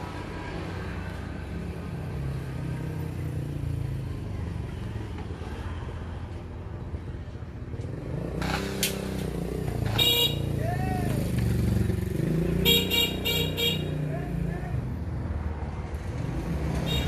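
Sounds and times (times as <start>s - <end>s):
passing road traffic rumble: 0.0s - 17.0s.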